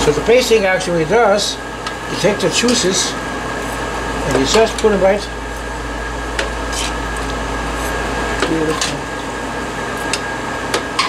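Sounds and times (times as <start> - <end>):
kitchen equipment hum: 0.0 - 11.0.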